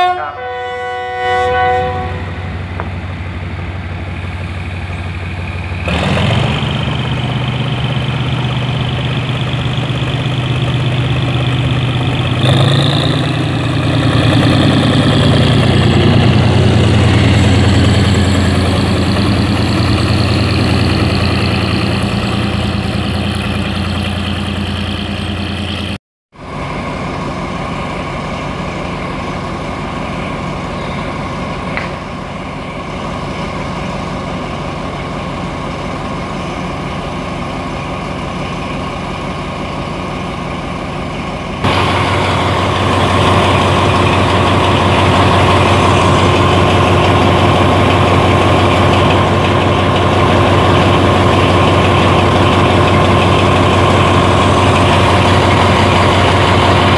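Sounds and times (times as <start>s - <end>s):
diesel locomotive engine: 0.0s - 56.9s
diesel locomotive running steadily: 0.0s - 56.9s.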